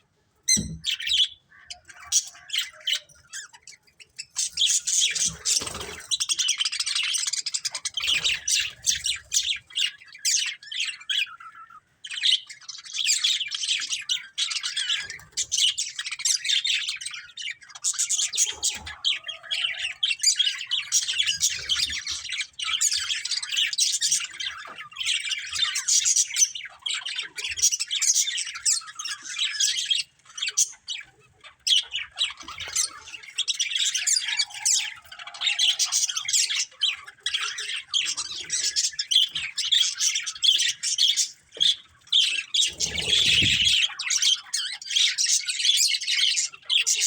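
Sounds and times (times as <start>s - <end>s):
budgerigars chirping and warbling: 0.1s - 47.0s.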